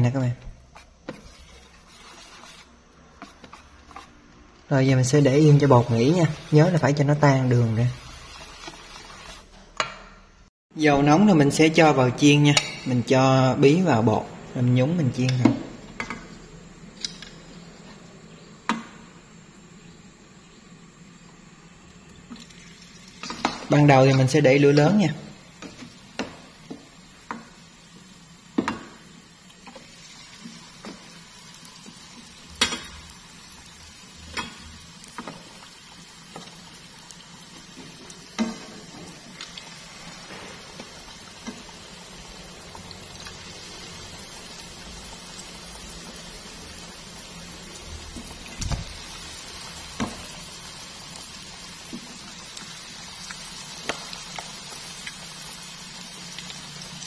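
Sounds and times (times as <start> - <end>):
food deep-frying in hot oil: 0.1 - 9.6, 11.0 - 57.0.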